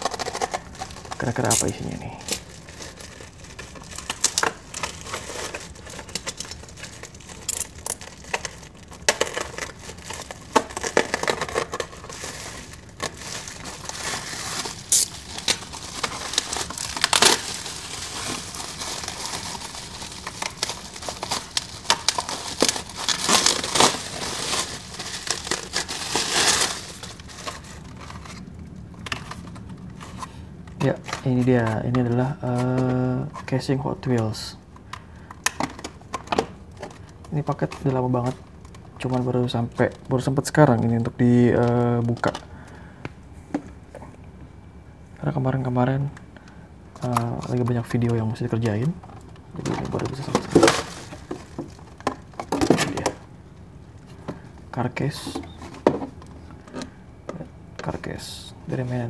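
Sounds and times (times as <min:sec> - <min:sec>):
bubble wrap crinkling: 0:00.0 - 0:42.9, 0:47.0 - 0:59.0.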